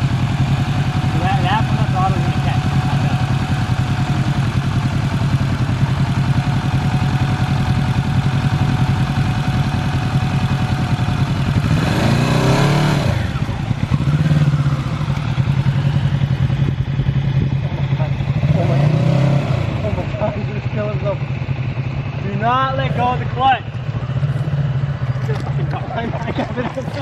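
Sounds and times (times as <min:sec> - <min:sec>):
motorcycle engine running and revving: 0:00.0 - 0:27.0.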